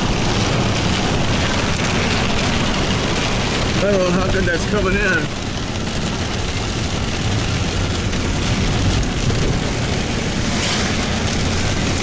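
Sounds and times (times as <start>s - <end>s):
vehicle cabin rumble and hiss: 0.0s - 12.0s.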